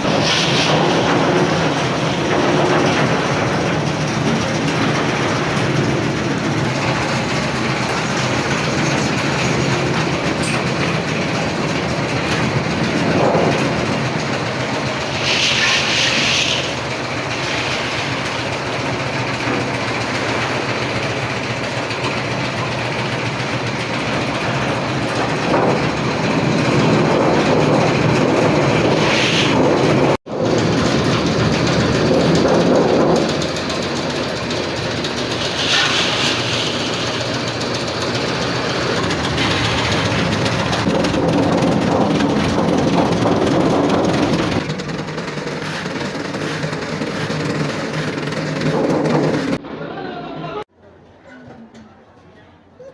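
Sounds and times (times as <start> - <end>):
machinery clattering: 0.0 - 49.7.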